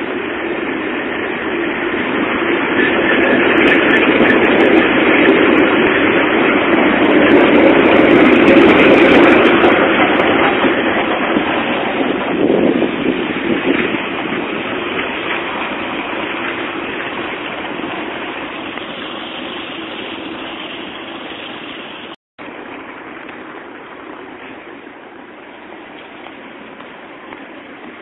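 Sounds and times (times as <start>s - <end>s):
tram rumbling along track: 0.0s - 28.0s.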